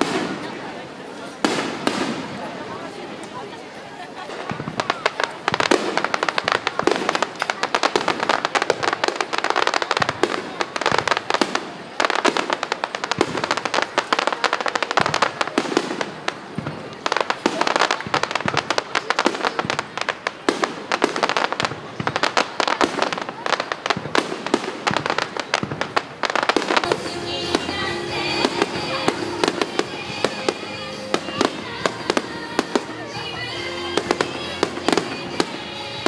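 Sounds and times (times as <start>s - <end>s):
fireworks popping and crackling: 0.0s - 36.0s.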